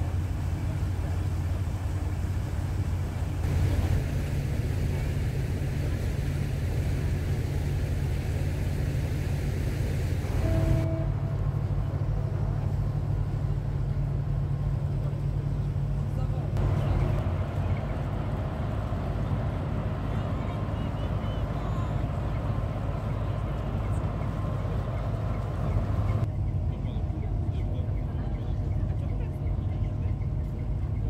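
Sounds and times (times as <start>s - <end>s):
rushing water: 0.0s - 26.3s
boat engine droning: 0.0s - 31.0s
wind: 0.0s - 31.0s.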